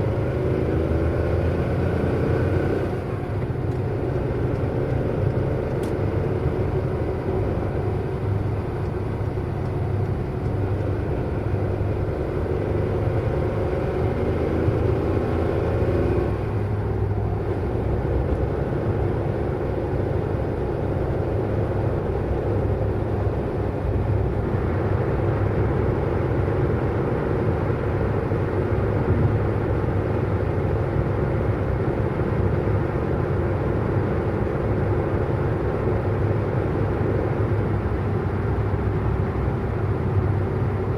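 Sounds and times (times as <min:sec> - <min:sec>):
car engine hum: 0:00.0 - 0:40.9.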